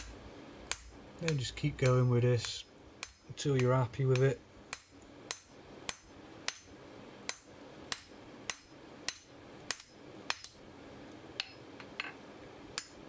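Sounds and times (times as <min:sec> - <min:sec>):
hammer striking hot steel on anvil: 0:00.0 - 0:10.6.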